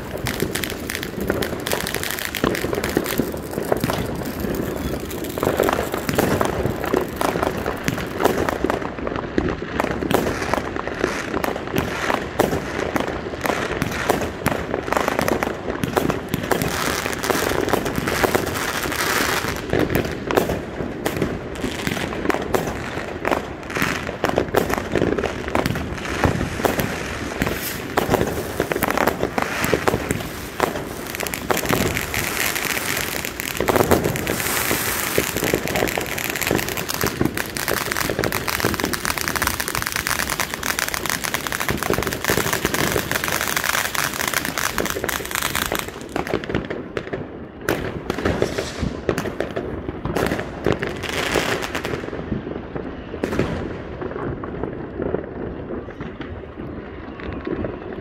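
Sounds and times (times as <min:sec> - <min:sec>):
fireworks popping and crackling: 0:00.0 - 0:58.0.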